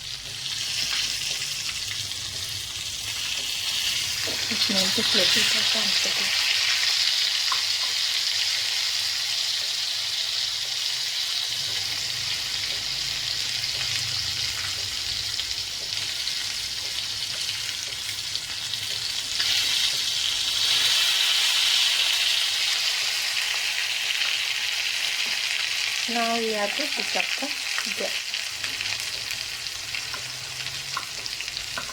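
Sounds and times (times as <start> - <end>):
crab frying in a pan: 0.0 - 31.9.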